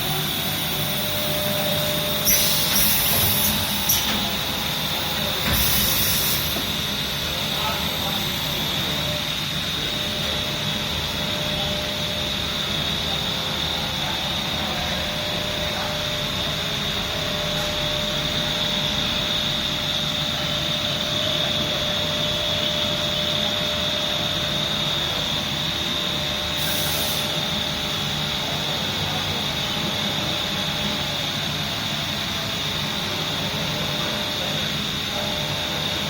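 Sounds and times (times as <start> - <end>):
welding machine humming and whining: 0.0 - 36.0.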